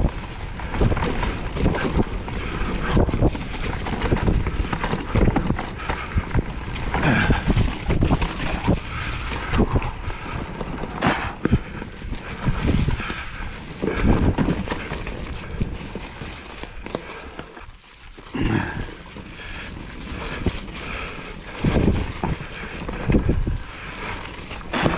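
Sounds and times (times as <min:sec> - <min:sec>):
wind buffeting microphone: 0:00.0 - 0:17.6, 0:18.2 - 0:24.9
bike rattling on rough trail: 0:00.0 - 0:24.9.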